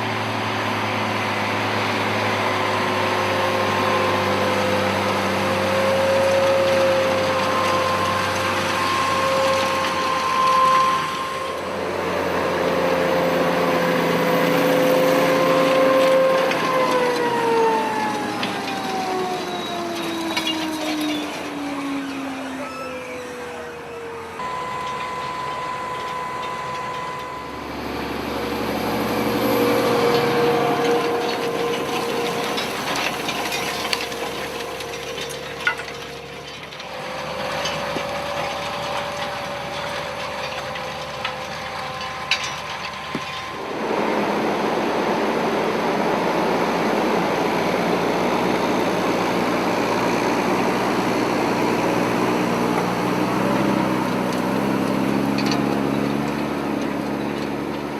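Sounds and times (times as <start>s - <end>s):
tractor engines running: 0.0s - 57.9s.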